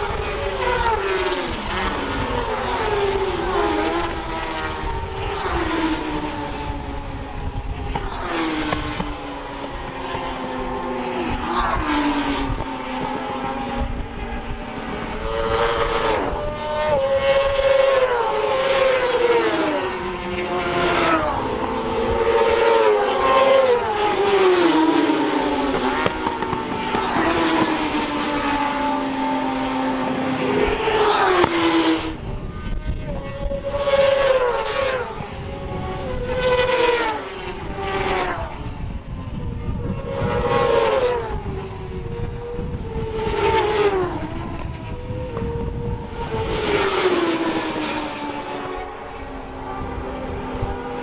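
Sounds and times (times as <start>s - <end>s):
racing motorcycle engines: 0.0s - 51.0s.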